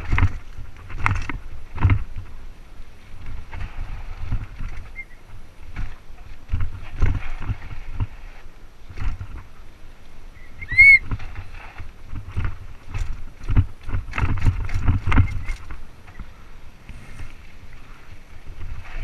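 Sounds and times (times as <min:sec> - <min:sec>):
bike knocking and rattling: 0:00.0 - 0:09.7, 0:10.6 - 0:16.4.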